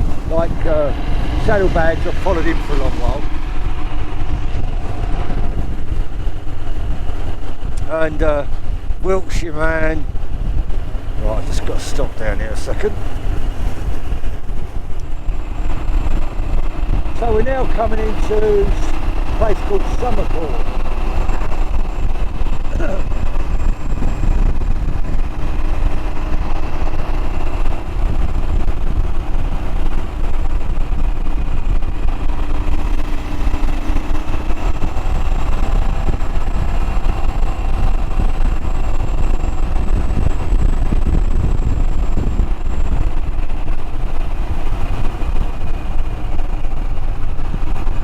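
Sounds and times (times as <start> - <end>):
motorcycle engine running: 0.0 - 48.0
wind noise on microphone: 0.0 - 48.0.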